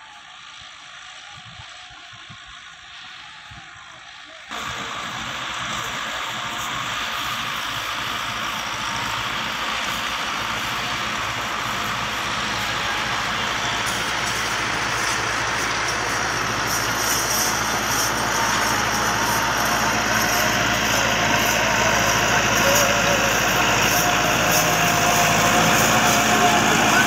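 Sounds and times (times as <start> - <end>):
tractor diesel engine running: 4.4 - 27.0.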